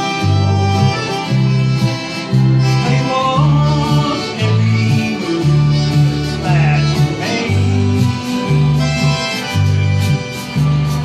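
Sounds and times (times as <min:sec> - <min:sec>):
accordion melody: 0:00.0 - 0:11.0
acoustic guitars strumming: 0:00.0 - 0:11.0
low bass notes: 0:00.0 - 0:11.0.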